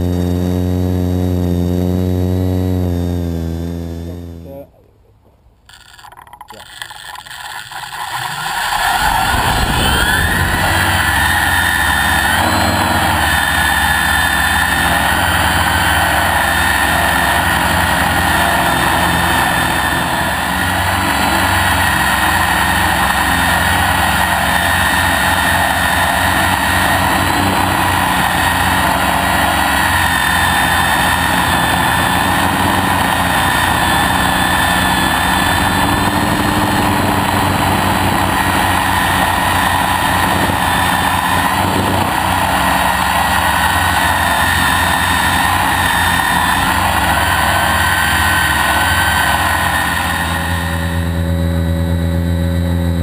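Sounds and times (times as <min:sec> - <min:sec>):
quadcopter motors whining: 0:00.0 - 0:04.7, 0:05.7 - 0:53.0.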